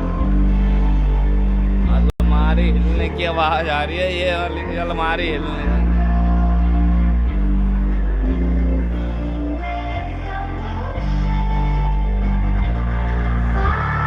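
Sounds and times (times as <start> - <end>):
distorted song with deep bass: 0.0 - 14.0.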